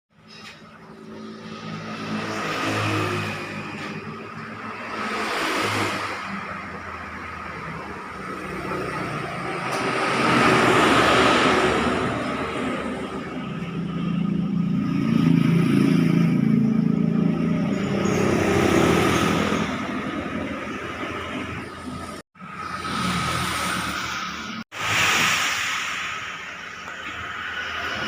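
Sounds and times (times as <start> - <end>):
motorcycle engine revving: 0.6 - 24.6.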